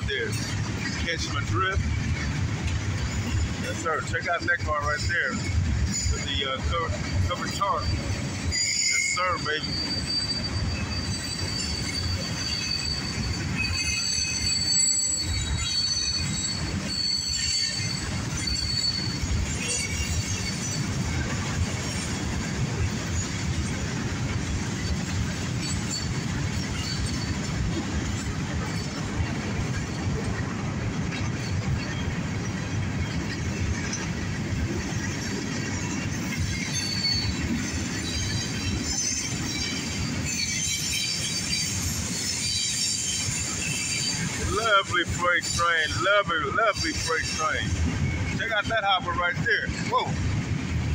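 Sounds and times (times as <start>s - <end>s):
steel wheels rumbling on rail: 0.0s - 50.9s
high-pitched wheel squeal: 2.9s - 23.9s, 24.6s - 30.2s, 35.1s - 50.2s.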